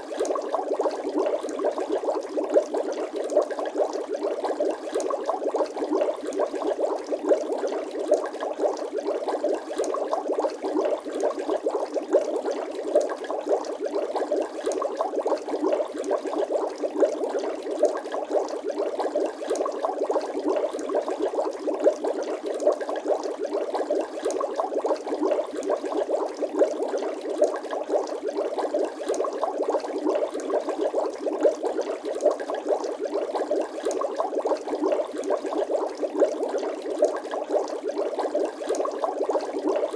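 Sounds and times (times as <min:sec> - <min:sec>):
bubbles popping in water: 0:00.0 - 0:39.9.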